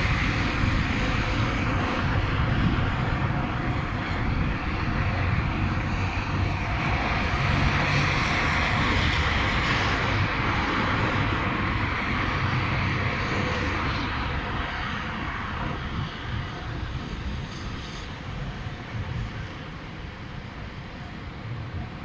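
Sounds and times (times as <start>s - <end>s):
aircraft engine rushing: 0.0s - 20.4s.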